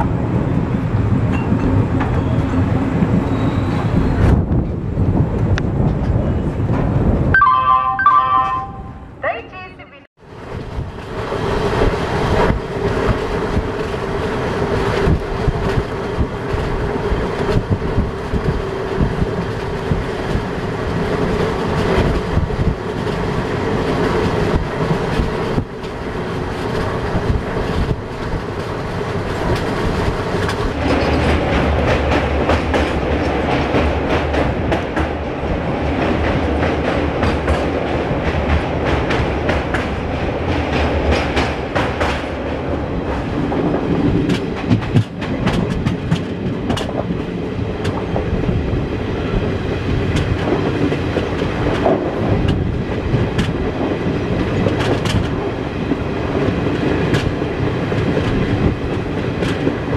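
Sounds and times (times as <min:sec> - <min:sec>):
train running at speed: 0:00.0 - 0:59.9
wheels clicking over rail joints: 0:10.6 - 0:59.9.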